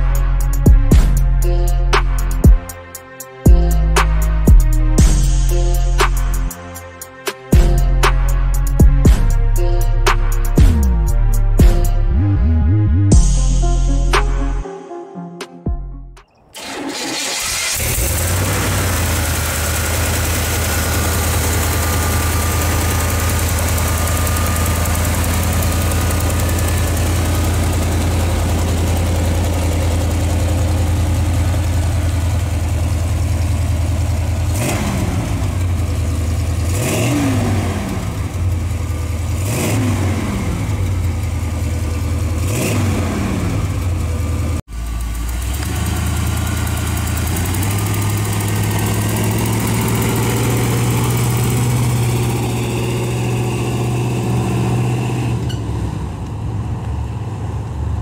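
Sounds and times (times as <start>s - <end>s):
engine idling and revving: 0.0s - 14.6s, 16.2s - 58.0s.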